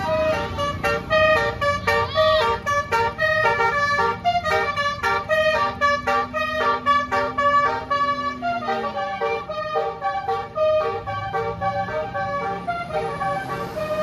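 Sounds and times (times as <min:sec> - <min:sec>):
bus horn playing a tune: 0:00.0 - 0:14.0
low engine rumble: 0:00.0 - 0:14.0.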